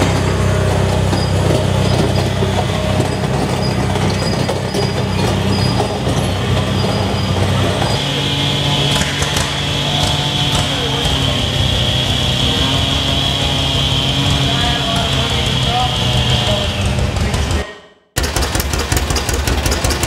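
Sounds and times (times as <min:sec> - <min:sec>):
engine running steadily: 0:00.0 - 0:17.6, 0:18.2 - 0:20.0
different engine note: 0:00.0 - 0:20.0.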